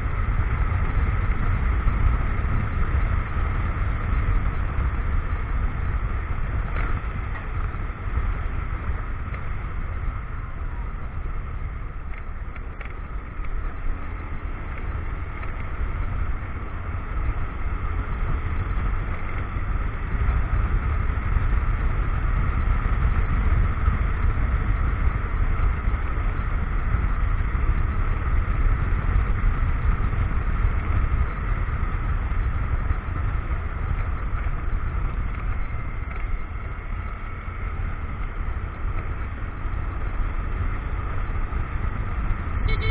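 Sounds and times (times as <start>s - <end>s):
motorcycle running: 0.0s - 42.9s
wind rumble on microphone: 0.0s - 42.9s.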